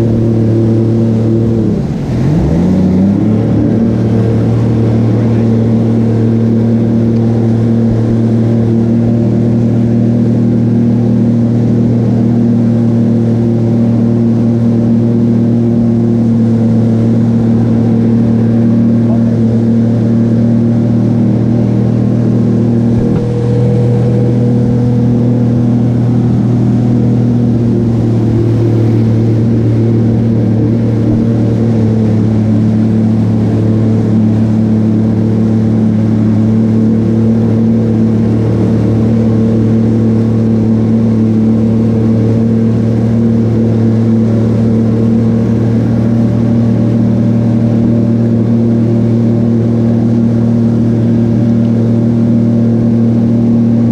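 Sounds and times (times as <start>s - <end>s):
jet ski engine droning: 0.0s - 53.9s.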